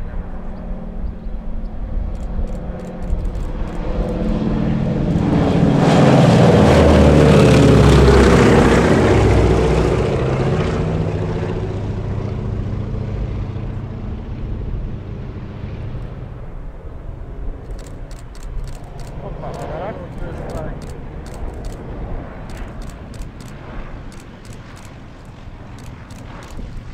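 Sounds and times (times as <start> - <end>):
propeller plane flying past: 0.0 - 26.9.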